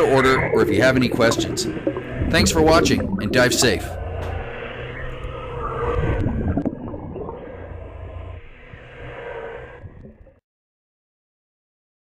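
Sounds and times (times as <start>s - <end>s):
underwater motor whine: 0.0s - 10.0s
low rumble: 0.4s - 10.4s.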